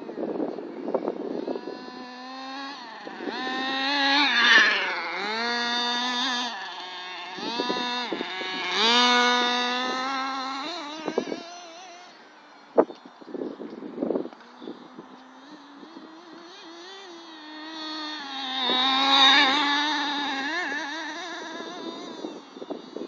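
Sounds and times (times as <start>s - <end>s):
small engine revving whine: 0.0s - 23.0s.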